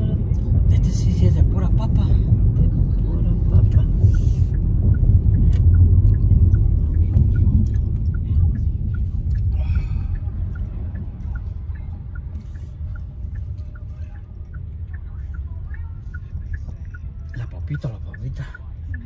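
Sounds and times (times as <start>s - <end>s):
car road and engine rumble: 0.0s - 19.0s
light regular ticking: 0.0s - 19.0s.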